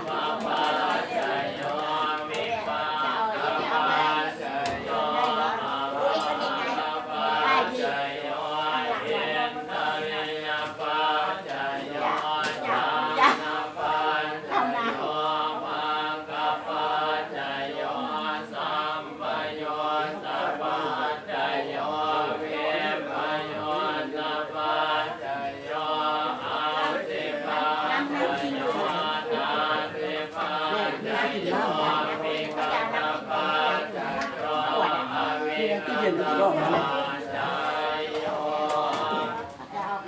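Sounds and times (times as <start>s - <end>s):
group of voices chanting: 0.0s - 39.8s.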